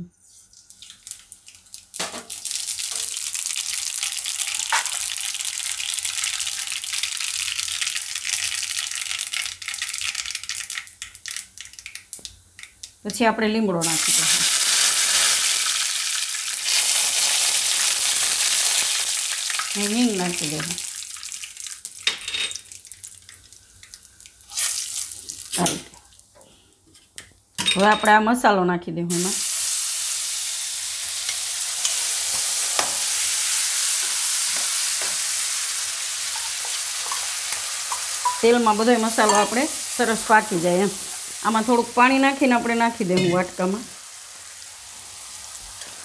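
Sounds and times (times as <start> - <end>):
mustard seeds sizzling in hot oil: 0.6 - 13.2, 13.8 - 26.3, 29.1 - 46.0.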